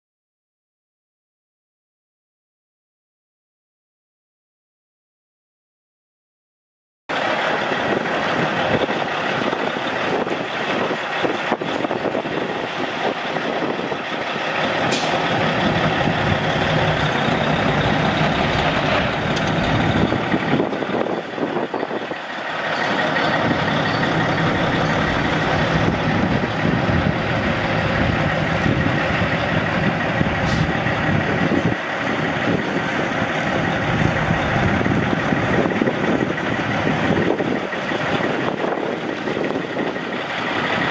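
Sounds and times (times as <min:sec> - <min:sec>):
diesel truck engine running: 0:07.1 - 0:40.9.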